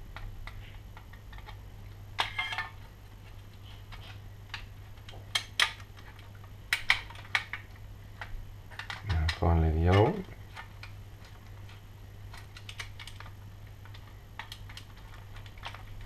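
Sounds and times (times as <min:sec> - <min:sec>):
clicks of thermostat wires: 0:00.0 - 0:16.0
low steady hum: 0:00.0 - 0:16.0.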